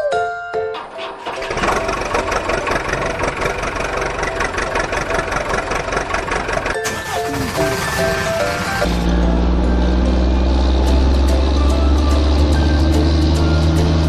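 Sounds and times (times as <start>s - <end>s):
heavy vehicle engine rattling: 0.7s - 14.0s.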